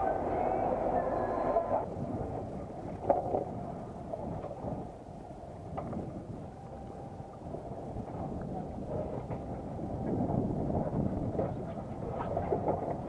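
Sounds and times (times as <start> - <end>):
water noise around boat: 0.0 - 13.0
wind: 0.0 - 13.0.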